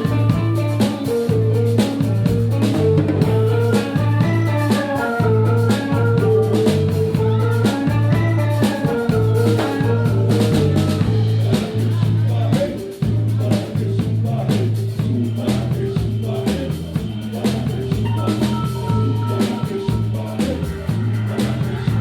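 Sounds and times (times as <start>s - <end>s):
band playing instrumental groove: 0.0s - 22.0s
drums and percussion: 0.0s - 22.0s
repeating bass line: 0.0s - 22.0s.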